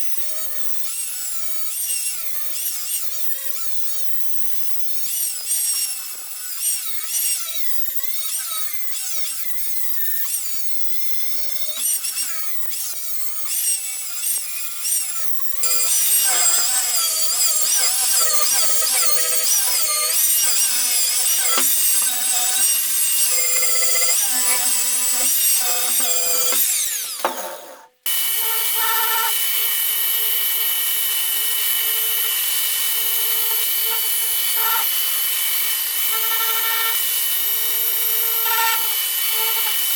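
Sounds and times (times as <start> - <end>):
power tool whining: 0.2 - 39.9.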